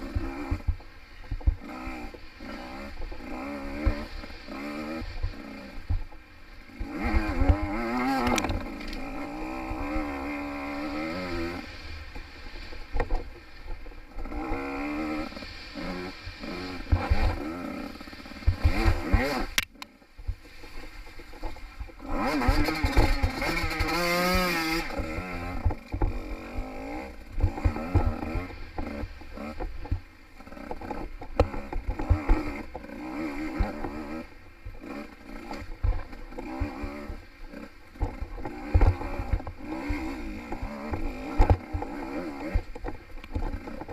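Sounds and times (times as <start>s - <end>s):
dirt bike engine revving: 0.0s - 13.1s, 14.1s - 20.0s, 20.8s - 43.9s.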